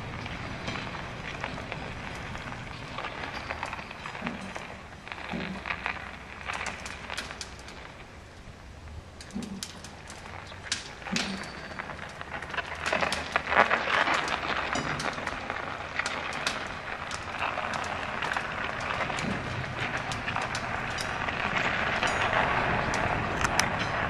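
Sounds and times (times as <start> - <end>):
crackling and clicks: 0.0 - 24.0
cradle rolling down slipway: 0.0 - 24.0.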